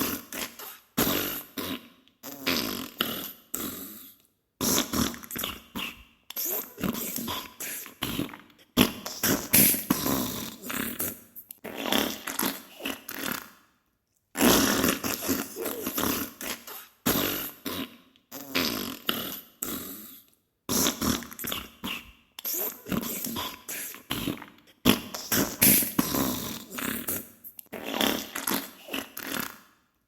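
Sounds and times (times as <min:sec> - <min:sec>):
sputtering fart bursts: 0:00.0 - 0:03.2, 0:04.6 - 0:13.6, 0:14.4 - 0:19.8, 0:20.7 - 0:29.6.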